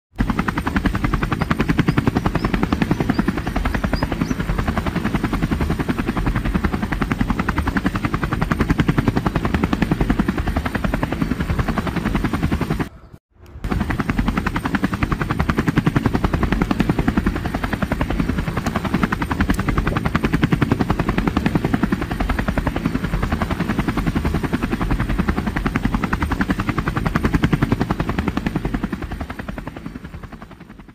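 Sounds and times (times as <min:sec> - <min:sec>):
helicopter rotor chopping: 0:00.2 - 0:12.9, 0:13.5 - 0:30.9.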